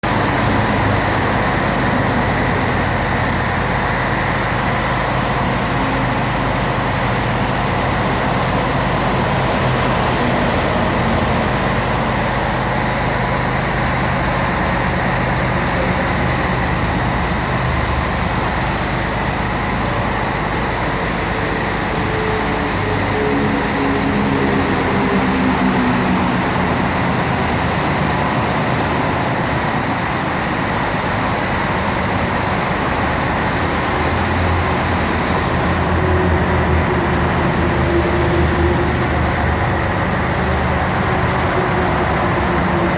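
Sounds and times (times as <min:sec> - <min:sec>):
diesel truck engine droning: 0:00.0 - 0:42.9.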